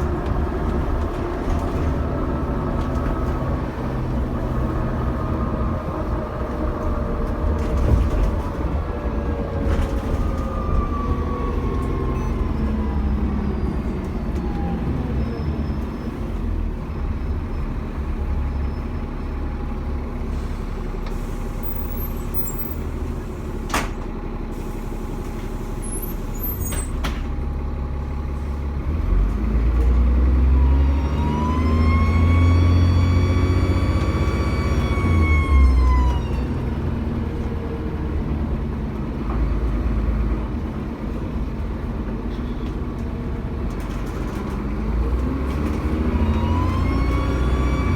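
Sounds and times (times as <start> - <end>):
bus diesel engine: 0.0 - 47.9.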